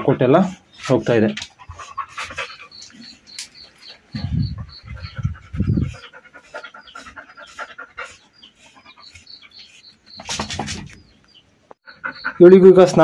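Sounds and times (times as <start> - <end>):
dog panting: 0.0 - 10.8, 11.8 - 13.0
comb rough rasp: 0.0 - 11.1.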